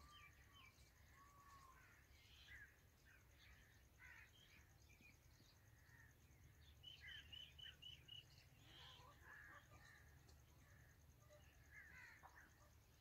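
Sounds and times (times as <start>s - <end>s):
faint songbird chirps and whistles: 0.0s - 13.0s.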